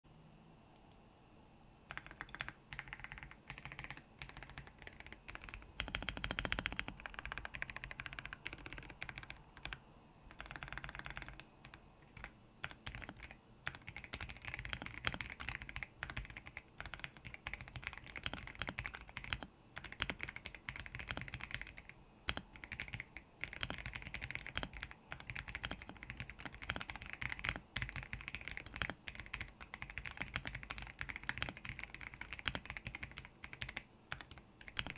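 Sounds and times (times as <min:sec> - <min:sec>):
mechanical keyboard typing: 0:01.9 - 0:34.9.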